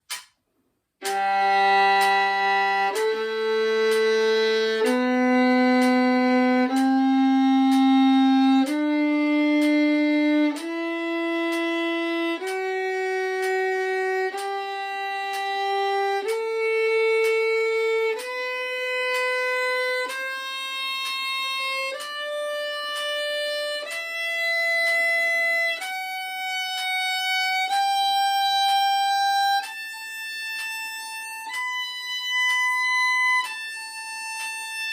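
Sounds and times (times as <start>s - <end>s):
solo violin playing a scale: 1.0s - 34.9s.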